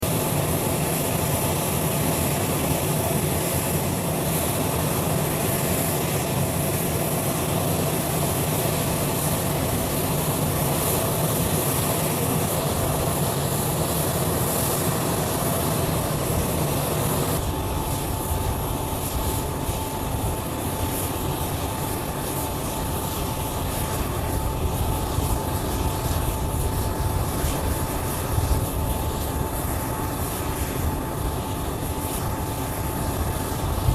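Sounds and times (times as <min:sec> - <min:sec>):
jet engines roaring: 0:00.0 - 0:33.9
thin steady whine: 0:00.0 - 0:33.9.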